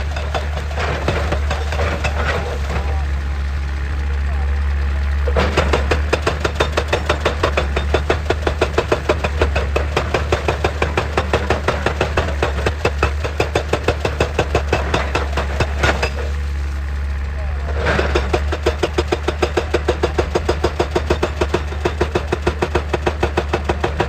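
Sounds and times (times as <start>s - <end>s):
hydraulic rock breaker hammering: 0.0s - 16.7s, 17.6s - 24.0s
excavator engine drone: 0.0s - 24.0s.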